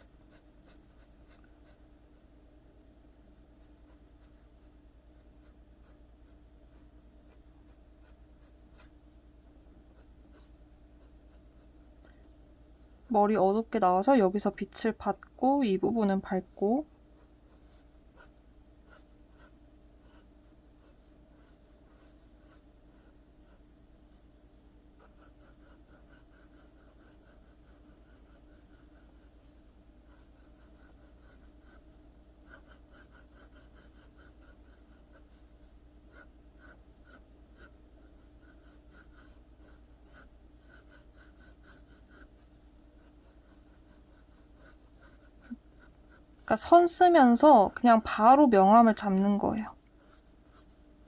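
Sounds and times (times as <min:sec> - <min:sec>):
pencil scratching on paper: 0:00.0 - 0:01.8, 0:03.1 - 0:09.3, 0:09.9 - 0:12.2, 0:16.8 - 0:50.8.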